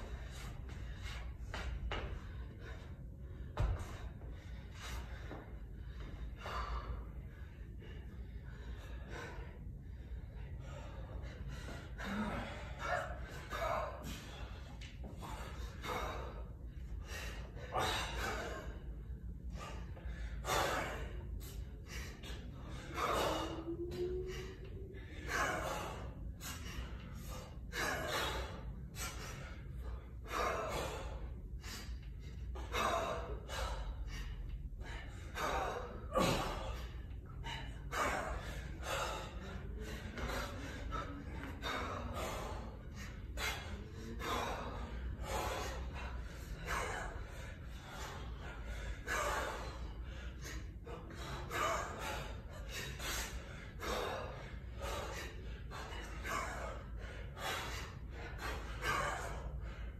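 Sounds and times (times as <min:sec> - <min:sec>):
man breathing hard: 0:00.0 - 0:59.9.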